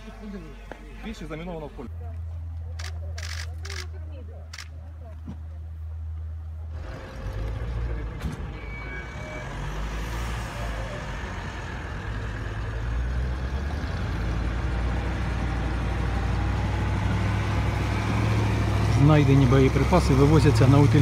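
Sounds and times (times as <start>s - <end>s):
truck engine humming: 0.0s - 21.0s.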